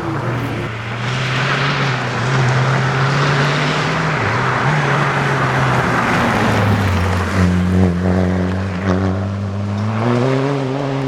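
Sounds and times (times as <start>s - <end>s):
rally car engine at speed: 0.0s - 11.0s.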